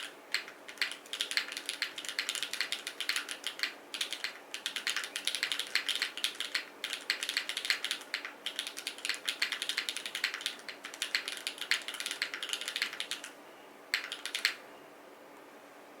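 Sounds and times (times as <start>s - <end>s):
mechanical keyboard typing: 0.0s - 13.3s, 13.9s - 14.6s.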